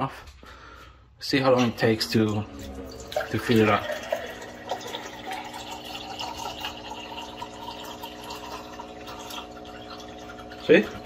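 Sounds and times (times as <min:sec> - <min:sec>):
pump humming: 0:01.4 - 0:11.0
water pouring into a glass: 0:01.6 - 0:11.0.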